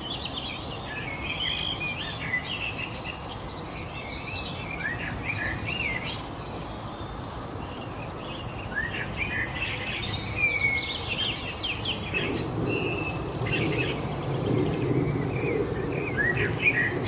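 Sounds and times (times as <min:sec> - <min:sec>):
small birds chirping and singing: 0:00.0 - 0:17.0.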